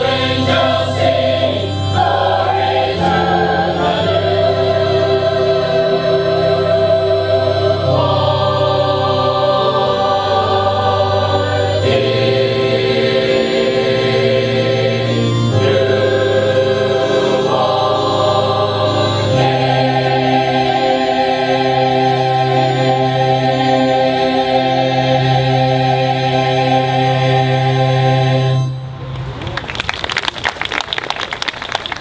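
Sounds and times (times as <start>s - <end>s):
choir singing sustained chords: 0.0s - 29.1s.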